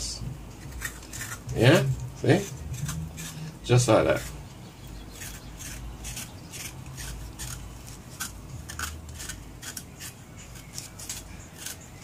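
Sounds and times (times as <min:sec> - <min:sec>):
knife scraping ginger skin: 0:00.6 - 0:04.4, 0:05.0 - 0:12.0.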